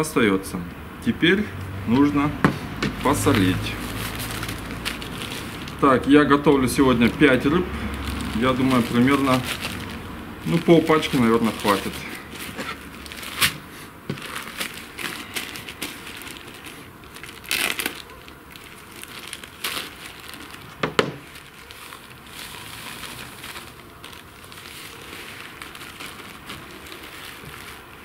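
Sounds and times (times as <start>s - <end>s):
plastic packet crinkling: 2.9s - 28.0s.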